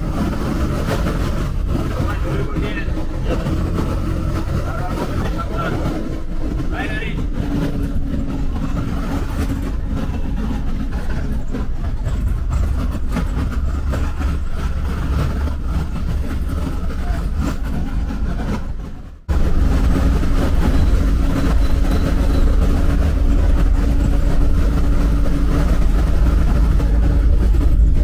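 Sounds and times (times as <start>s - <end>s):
bus engine hum: 0.0s - 28.0s
low road rumble: 0.0s - 28.0s.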